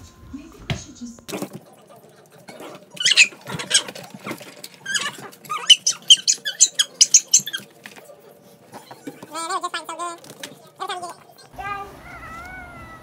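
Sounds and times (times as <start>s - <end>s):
animals squeaking and yelping: 1.3s - 13.0s.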